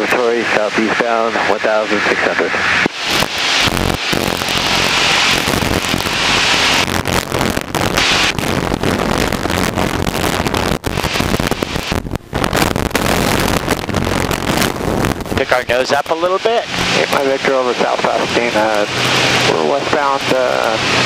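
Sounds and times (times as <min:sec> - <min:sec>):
airplane engine droning: 0:00.0 - 0:21.0
crackling intercom hiss: 0:00.0 - 0:21.0.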